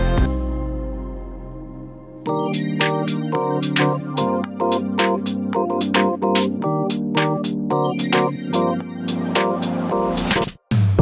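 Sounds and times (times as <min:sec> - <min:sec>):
background music with beat: 0:00.0 - 0:01.5, 0:02.2 - 0:11.0.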